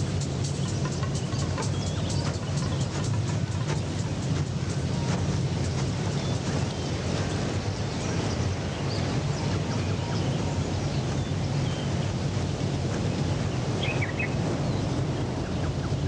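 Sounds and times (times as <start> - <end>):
wind rumble: 0.0 - 16.0.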